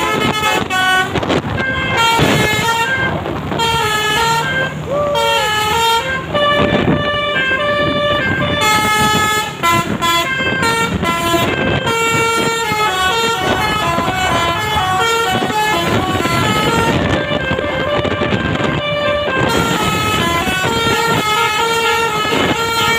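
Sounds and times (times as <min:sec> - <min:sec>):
melodic bus horn: 0:00.0 - 0:22.9.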